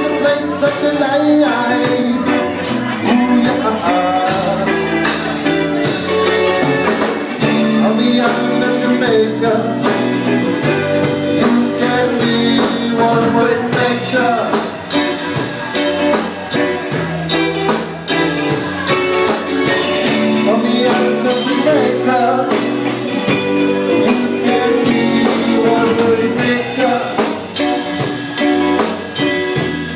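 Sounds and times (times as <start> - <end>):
drum kit beat: 0.0 - 29.9
guitar: 0.0 - 29.9
person singing: 0.0 - 29.9.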